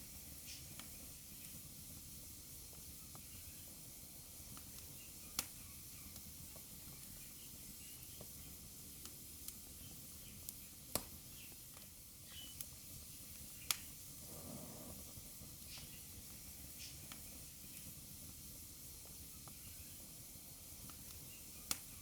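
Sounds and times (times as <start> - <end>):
fire crackles and pops: 0.0 - 22.0
fire hissing: 0.0 - 22.0.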